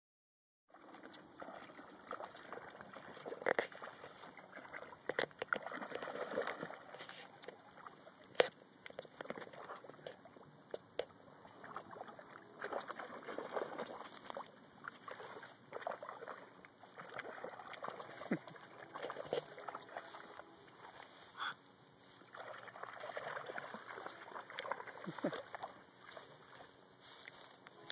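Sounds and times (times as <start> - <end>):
dog splashing through water: 0.7 - 10.4, 11.4 - 21.2, 22.2 - 27.4.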